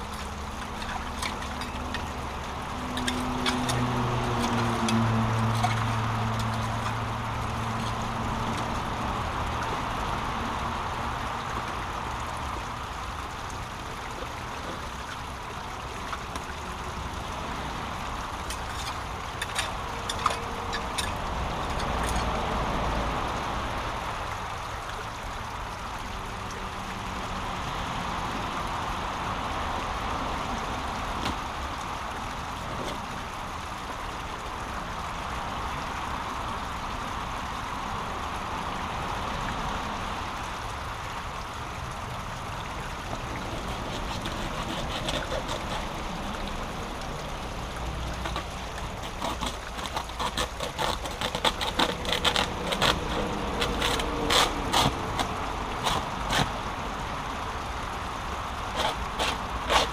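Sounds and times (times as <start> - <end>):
brook water over waterfall: 0.0 - 59.9.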